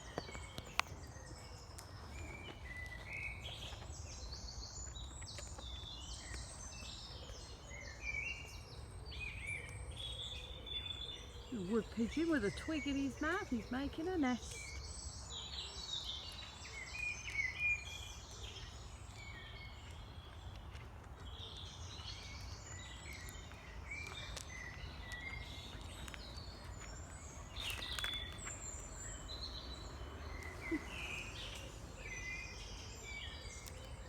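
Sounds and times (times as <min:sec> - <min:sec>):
songbirds singing and calling: 0:00.0 - 0:34.0.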